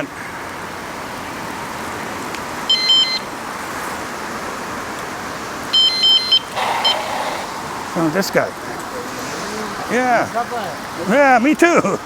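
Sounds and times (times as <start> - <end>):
rain hiss: 0.0 - 12.0
road noise: 0.0 - 12.0.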